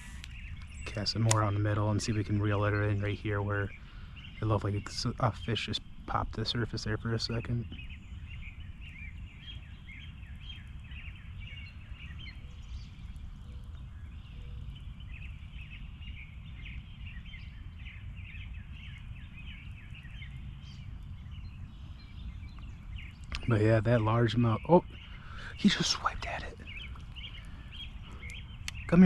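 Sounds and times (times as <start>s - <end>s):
low steady rumble: 0.0s - 24.4s
birds chirping: 0.0s - 29.0s.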